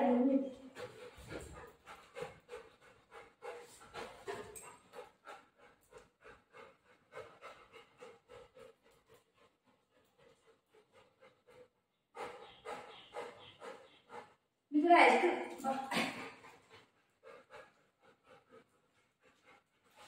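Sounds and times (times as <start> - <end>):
dog panting: 0.2 - 14.6, 15.3 - 20.0.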